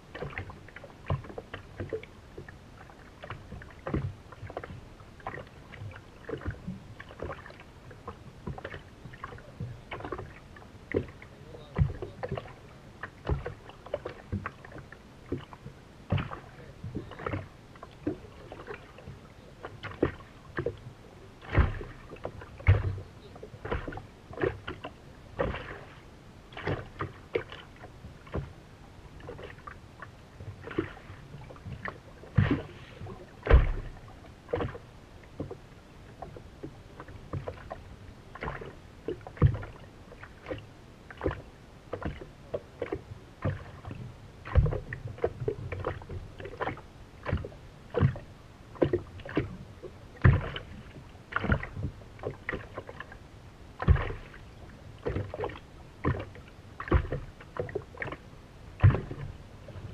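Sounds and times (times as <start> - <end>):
small waves slapping boat hull: 0.0 - 59.9.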